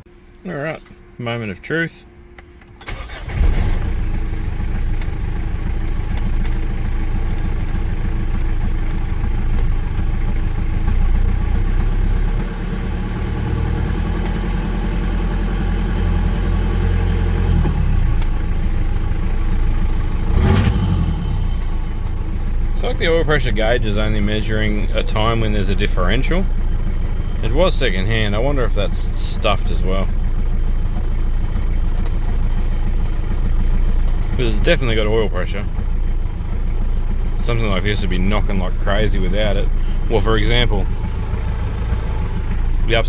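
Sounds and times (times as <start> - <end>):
diesel engine starting and running: 0.0 - 43.0.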